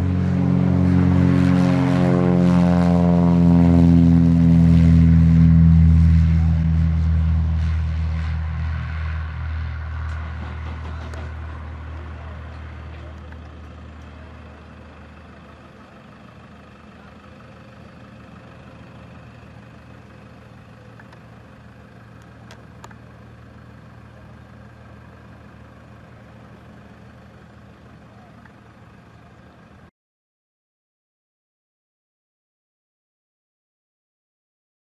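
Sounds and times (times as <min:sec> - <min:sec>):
propeller plane engine: 0:00.0 - 0:29.9.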